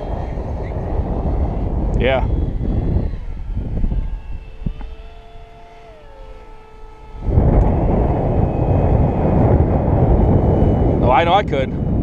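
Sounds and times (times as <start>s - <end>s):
model jet whine: 0.0s - 12.0s
wind buffeting microphone: 0.0s - 12.0s.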